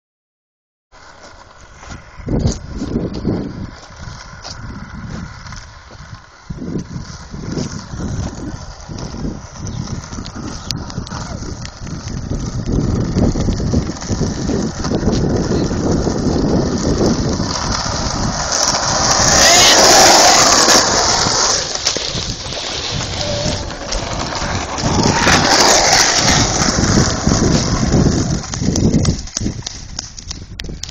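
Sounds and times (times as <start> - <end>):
skateboard wheels rolling on asphalt: 0.9 - 30.9
rushes of noise: 1.0 - 30.6.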